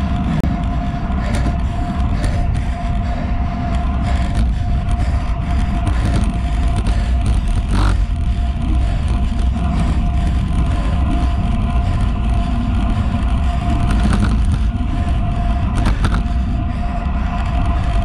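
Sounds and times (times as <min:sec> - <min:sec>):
faint steady whine: 0:00.0 - 0:18.0
wind rushing over camera: 0:00.0 - 0:18.0.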